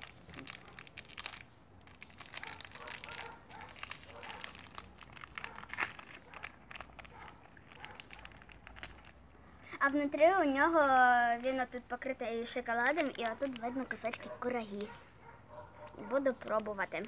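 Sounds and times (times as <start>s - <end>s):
plastic wrapper crinkling: 0.0s - 15.0s, 15.7s - 17.0s.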